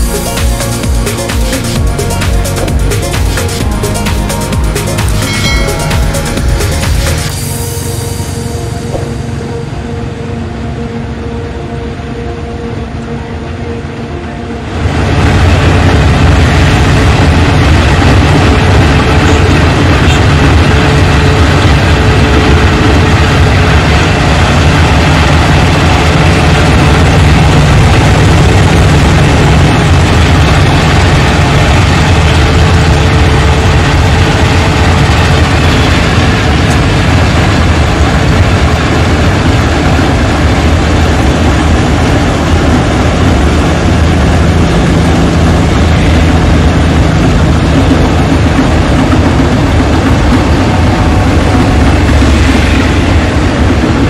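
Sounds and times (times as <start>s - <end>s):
machinery rushing noise: 0.0s - 10.0s, 14.9s - 54.0s
combine harvester engine drone: 0.0s - 54.0s.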